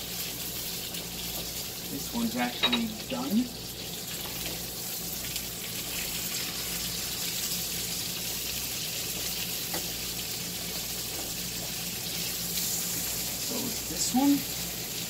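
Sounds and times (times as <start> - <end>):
cutlets sizzling in a pan: 0.0 - 15.0.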